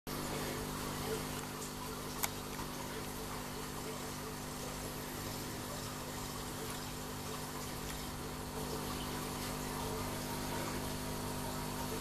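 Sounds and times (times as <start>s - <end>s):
water pump humming: 0.1s - 12.0s
bubbling splashing water: 0.6s - 12.0s.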